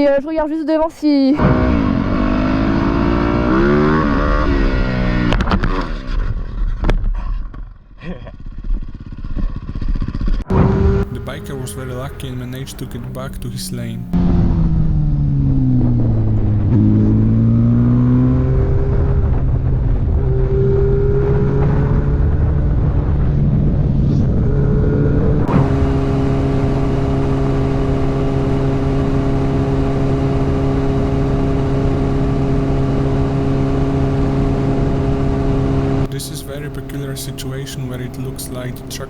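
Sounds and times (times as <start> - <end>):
motorcycle engine revving: 1.4 - 6.9, 8.4 - 39.0.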